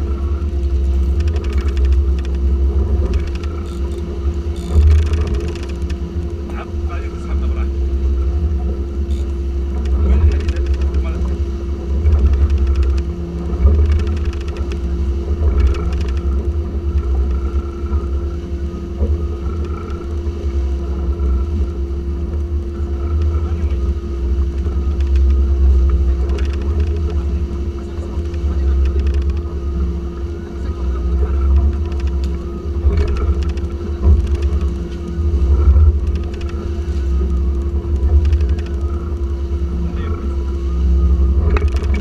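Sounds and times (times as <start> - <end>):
outboard motors droning: 0.0 - 42.0
water churning: 0.0 - 42.0.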